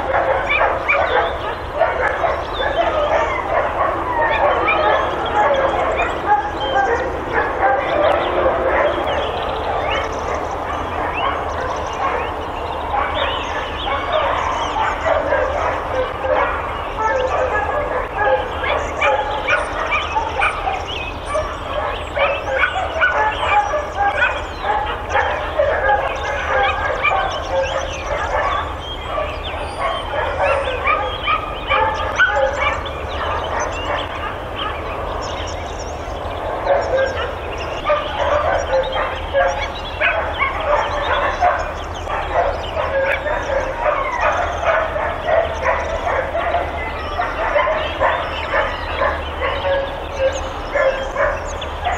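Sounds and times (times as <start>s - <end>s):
many dogs barking: 0.0s - 51.9s.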